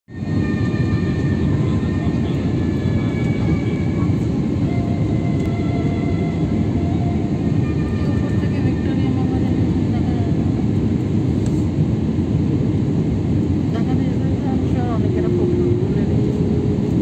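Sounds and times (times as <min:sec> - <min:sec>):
airliner cabin engine rumble: 0:00.1 - 0:17.0
faint high engine whine: 0:00.1 - 0:17.0.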